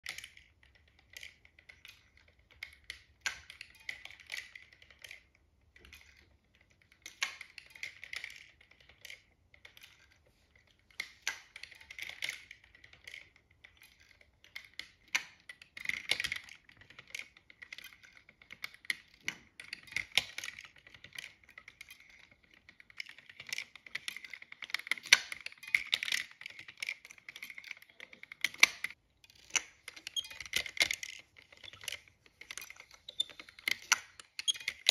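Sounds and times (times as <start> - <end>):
wooden gears clicking and clattering: 0.0 - 34.9.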